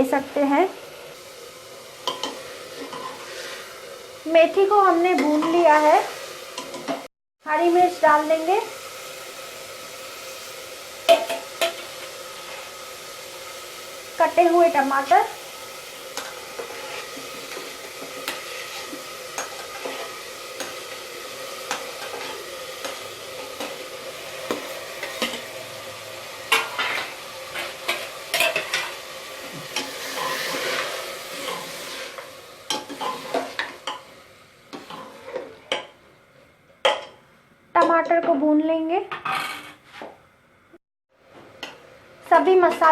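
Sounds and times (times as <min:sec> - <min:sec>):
vegetables sizzling in oil: 0:00.0 - 0:39.2, 0:41.1 - 0:42.9.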